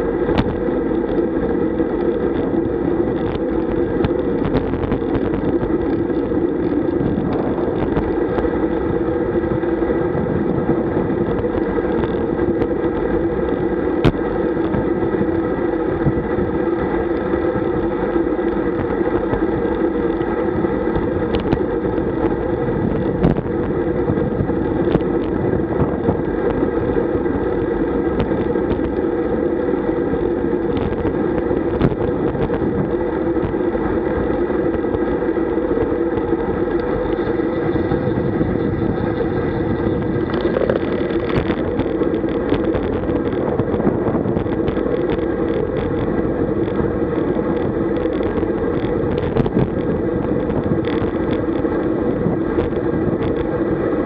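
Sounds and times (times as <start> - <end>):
wind and tyre rumble: 0.0 - 54.0.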